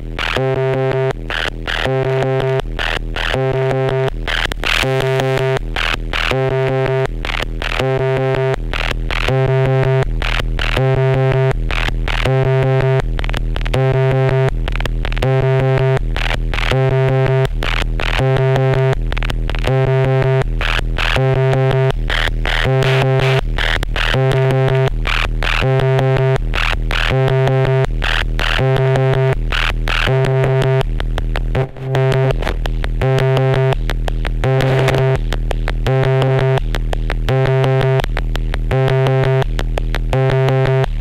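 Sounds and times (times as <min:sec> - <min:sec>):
looping electronic synthesizer pattern: 0:00.0 - 0:41.0.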